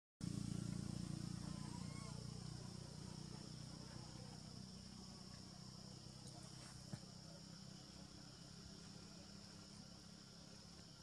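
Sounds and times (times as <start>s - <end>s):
faint insect chorus: 0.2s - 11.0s
low background hum: 0.2s - 11.0s.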